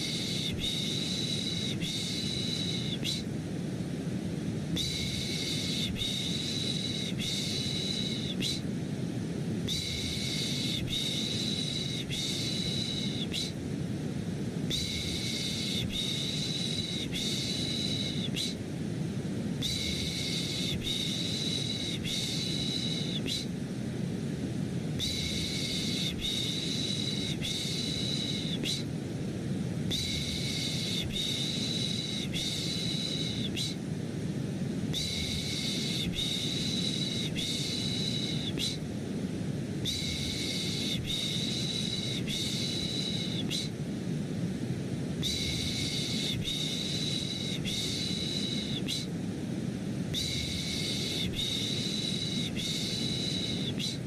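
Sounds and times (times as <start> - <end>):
low-pitched white noise: 0.0 - 54.0.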